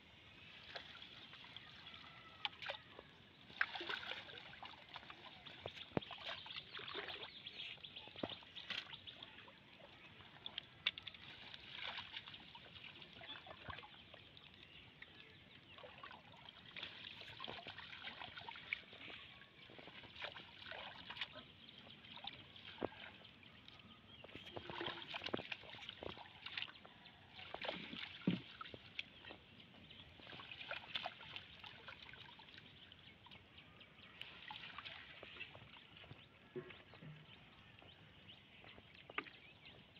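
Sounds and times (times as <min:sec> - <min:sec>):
small water splashes: 0:00.0 - 0:39.9
trickling water: 0:00.0 - 0:39.9.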